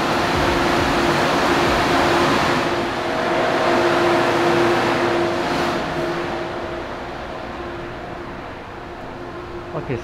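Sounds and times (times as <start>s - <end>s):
low electrical hum: 0.0s - 10.0s
train rushing: 0.0s - 10.0s.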